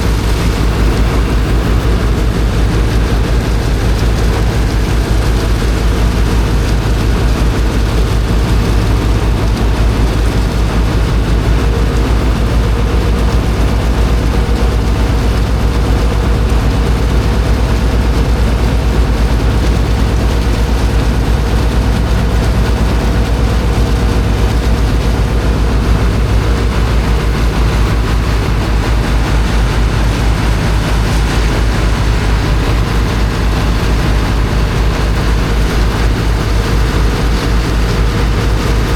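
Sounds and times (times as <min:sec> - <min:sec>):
water pump engine droning: 0:00.0 - 0:38.9.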